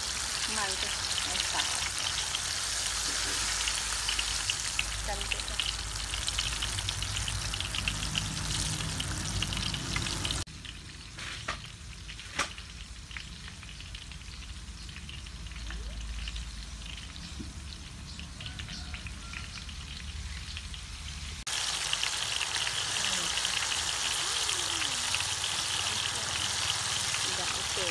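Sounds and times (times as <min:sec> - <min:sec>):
deep-frying sizzle: 0:00.0 - 0:27.9.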